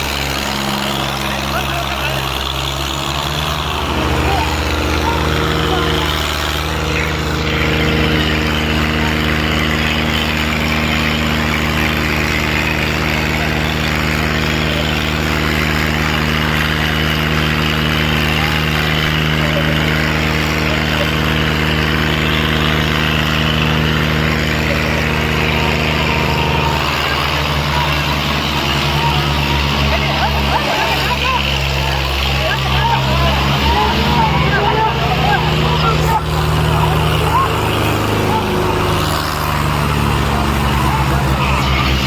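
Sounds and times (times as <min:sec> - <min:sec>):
diesel tractor engine running: 0:00.0 - 0:42.0.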